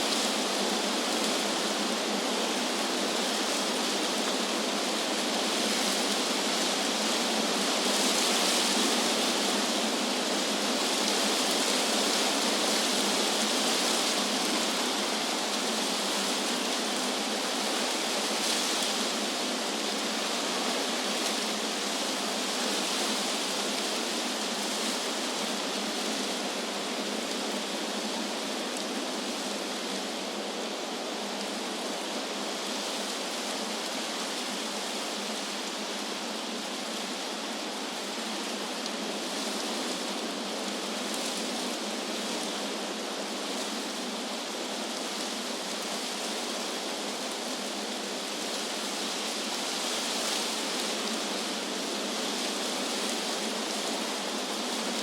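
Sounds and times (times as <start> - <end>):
wind rustling through trees: 0.0 - 55.0.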